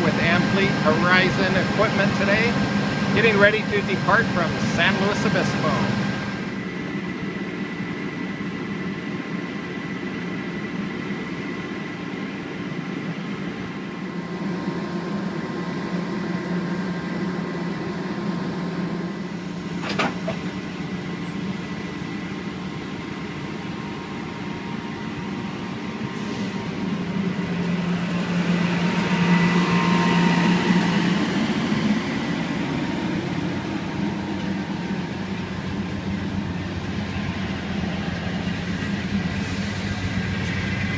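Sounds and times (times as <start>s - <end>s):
diesel locomotive idling: 0.0s - 40.9s.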